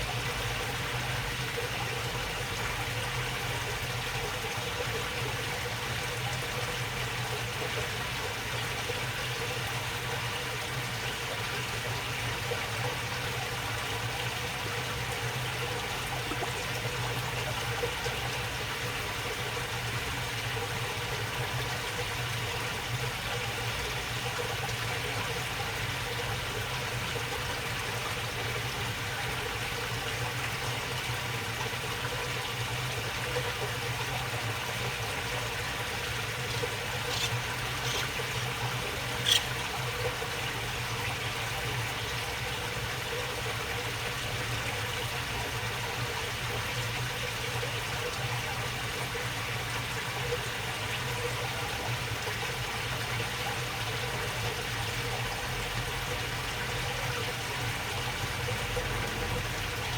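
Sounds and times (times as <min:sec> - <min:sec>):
water babbling in shallow channel: 0:00.0 - 0:59.9.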